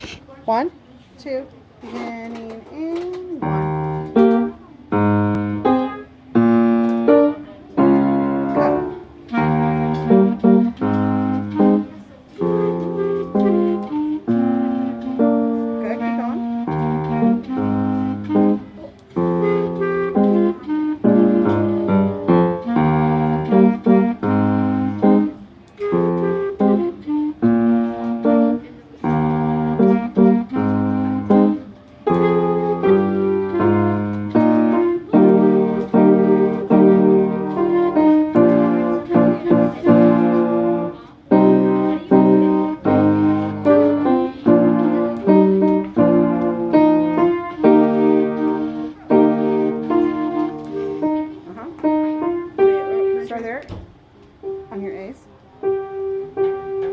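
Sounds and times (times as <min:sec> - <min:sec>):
piano-like keyboard melody: 0:03.4 - 0:53.6, 0:54.4 - 0:56.9.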